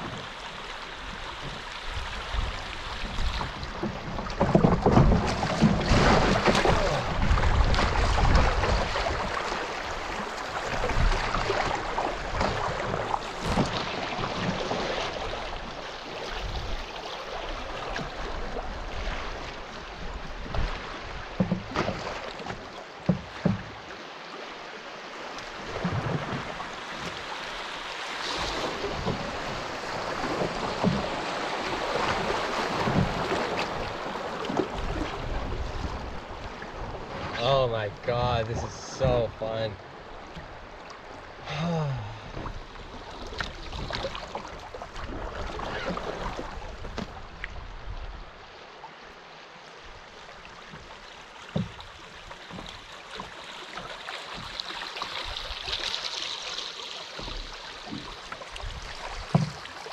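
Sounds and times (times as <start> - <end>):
river water rushing and splashing: 0.0 - 59.9.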